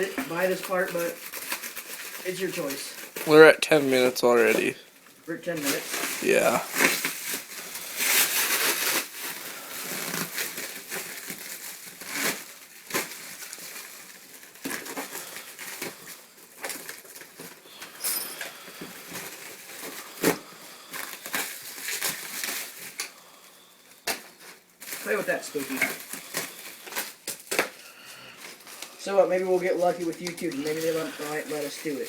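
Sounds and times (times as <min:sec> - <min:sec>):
packing paper rustling and crinkling: 0:00.0 - 0:32.0.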